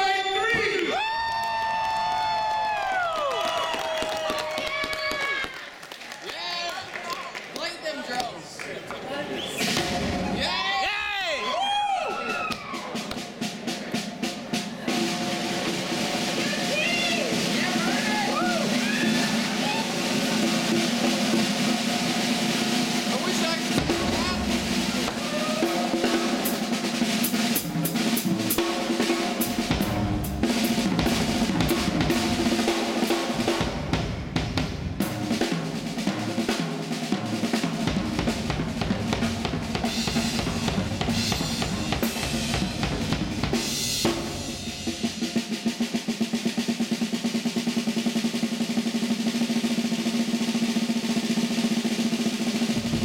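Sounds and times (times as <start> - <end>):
drum kit solo: 9.5 - 53.0.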